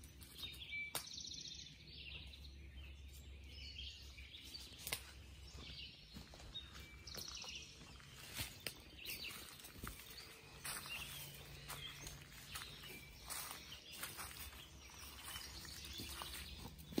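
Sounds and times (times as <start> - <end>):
faint bird chirps: 0.0 - 17.0
outdoor background noise: 0.0 - 17.0.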